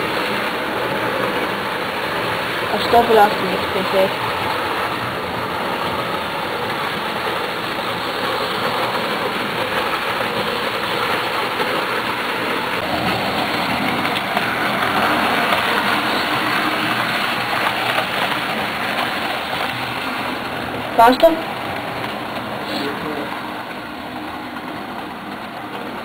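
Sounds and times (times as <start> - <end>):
model train whirring rumble: 0.0 - 26.0.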